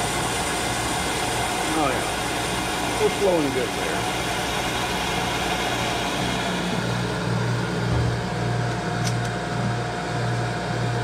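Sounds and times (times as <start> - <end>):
electric motor throbbing hum: 0.0 - 11.0.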